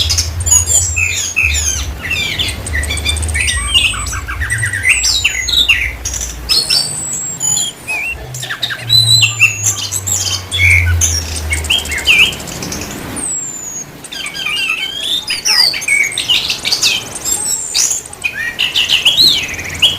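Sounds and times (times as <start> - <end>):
thrush singing whistled song: 0.0 - 19.9.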